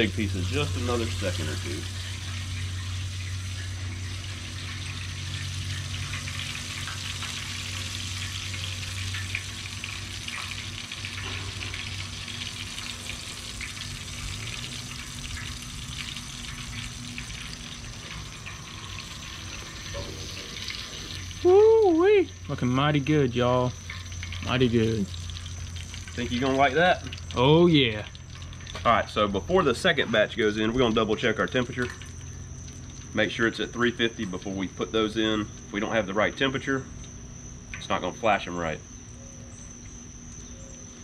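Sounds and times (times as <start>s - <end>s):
fish frying in oil: 0.0s - 41.0s
steady low hum: 0.0s - 41.0s.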